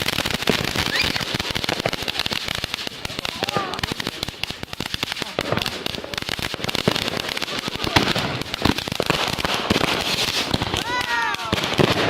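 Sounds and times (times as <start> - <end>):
firecrackers crackling: 0.0 - 12.0
fireworks bangs: 0.0 - 12.0.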